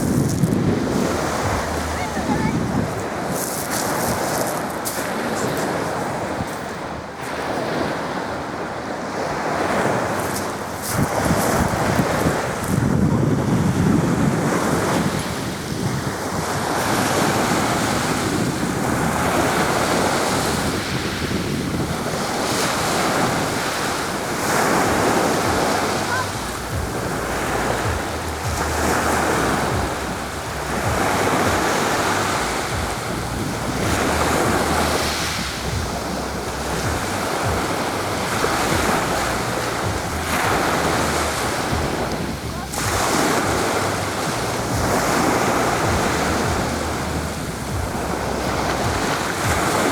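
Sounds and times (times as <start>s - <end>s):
sea waves washing ashore: 0.0s - 49.9s
wind buffeting microphone: 0.0s - 49.9s.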